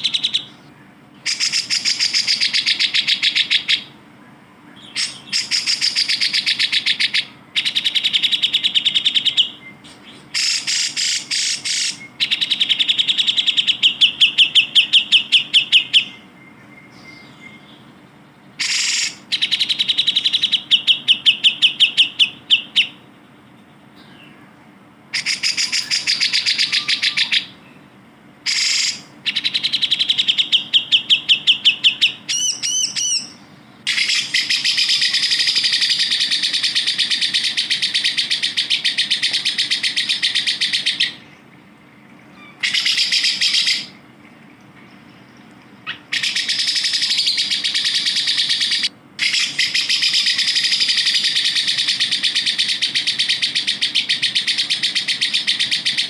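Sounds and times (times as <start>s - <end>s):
bird chattering song: 0.0s - 41.6s, 42.2s - 44.1s, 44.8s - 56.0s.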